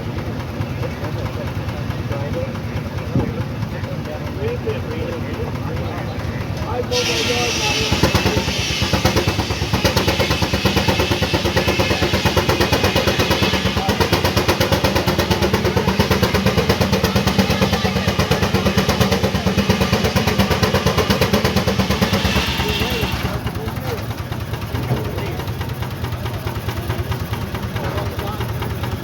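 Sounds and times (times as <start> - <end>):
steam engine chuffing: 0.0 - 29.0.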